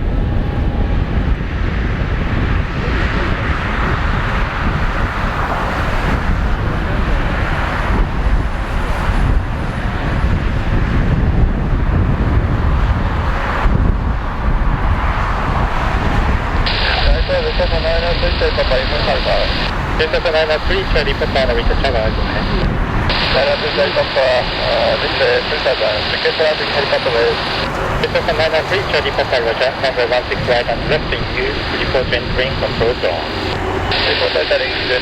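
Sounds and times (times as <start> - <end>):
jet engines rumbling: 0.0 - 35.0.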